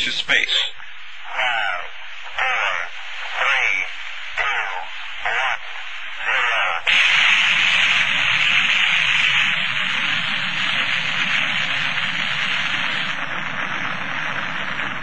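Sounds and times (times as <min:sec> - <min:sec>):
rocket engine roar: 0:01.2 - 0:15.0.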